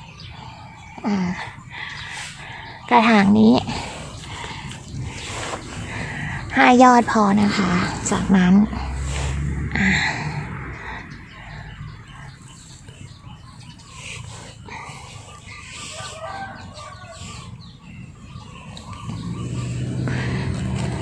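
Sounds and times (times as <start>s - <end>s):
low drone: 0.0s - 21.0s.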